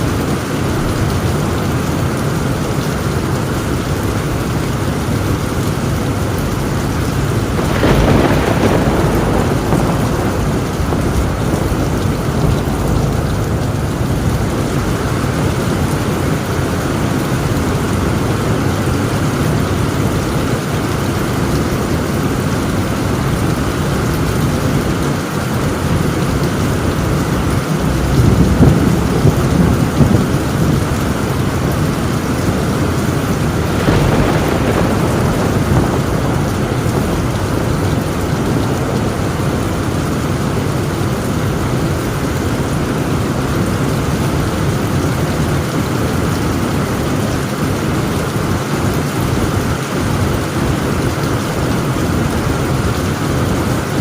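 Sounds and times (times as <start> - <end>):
heavy rain on a tin roof: 0.0 - 54.0
rolling thunder: 0.1 - 54.0.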